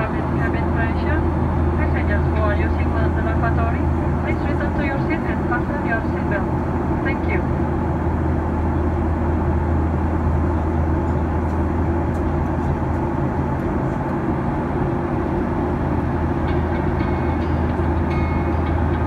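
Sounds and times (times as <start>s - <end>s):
airplane cabin drone: 0.0s - 19.0s
strong low hum: 0.0s - 19.0s.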